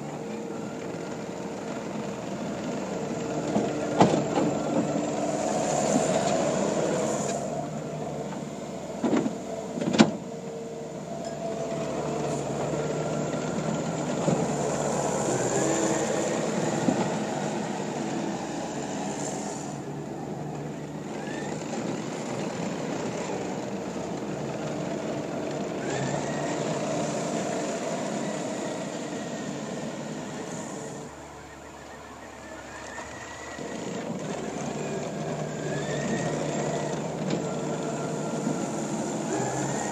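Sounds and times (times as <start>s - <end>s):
track loader diesel engine: 0.0s - 39.9s.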